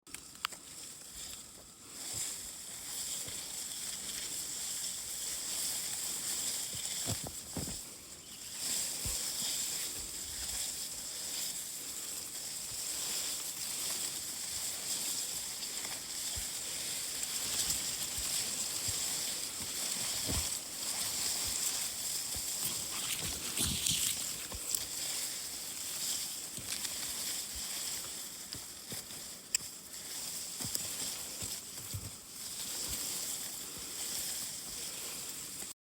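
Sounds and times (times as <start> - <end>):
high-pitched outdoor hiss: 0.1 - 35.8
rustling: 0.2 - 35.8.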